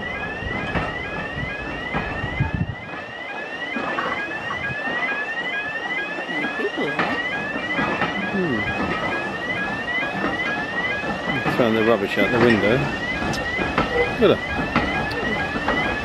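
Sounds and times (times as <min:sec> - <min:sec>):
electronic warning alarm yelping: 0:00.0 - 0:16.0
railway coaches rumbling: 0:00.0 - 0:16.0.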